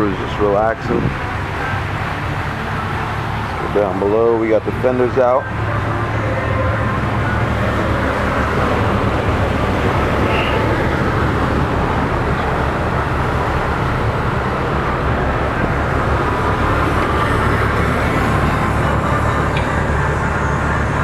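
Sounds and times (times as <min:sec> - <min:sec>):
diesel engines droning: 0:00.0 - 0:21.0
wind and water rushing: 0:00.0 - 0:21.0.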